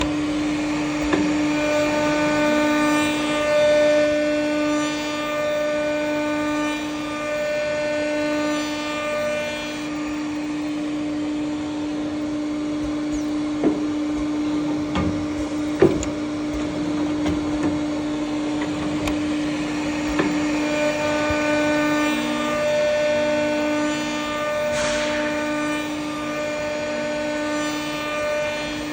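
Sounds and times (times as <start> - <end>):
electric motor humming: 0.0 - 28.9.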